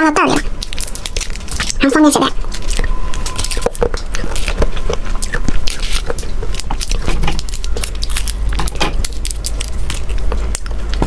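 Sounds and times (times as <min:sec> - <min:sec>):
plastic candy wrapper crinkling: 0:00.2 - 0:11.0.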